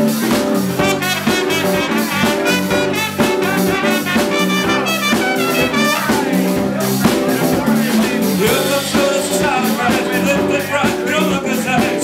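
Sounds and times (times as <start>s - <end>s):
jazz band playing: 0.0s - 12.0s
trumpet lead line: 0.0s - 12.0s.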